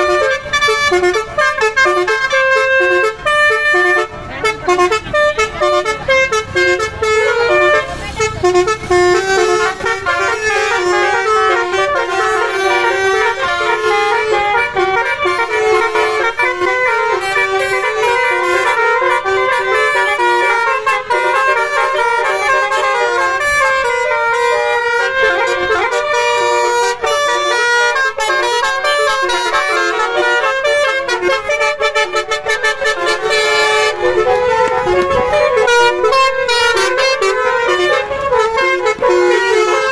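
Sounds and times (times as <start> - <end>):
musical car horn playing a tune: 0.0 - 39.9.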